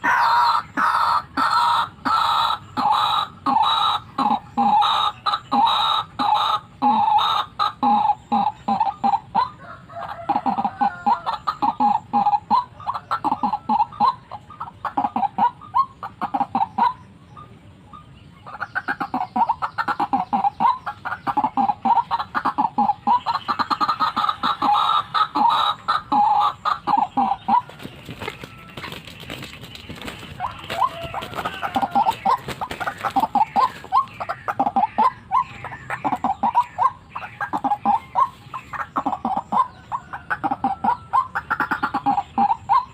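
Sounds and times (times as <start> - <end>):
bird croaking calls: 0.0 - 42.9.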